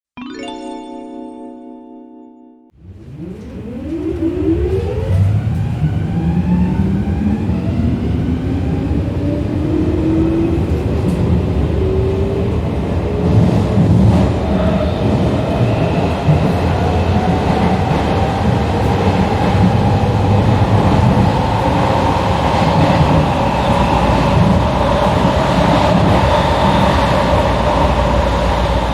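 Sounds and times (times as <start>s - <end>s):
train traction motors whining: 2.8s - 28.9s
wheels rumbling on rails: 2.8s - 28.9s.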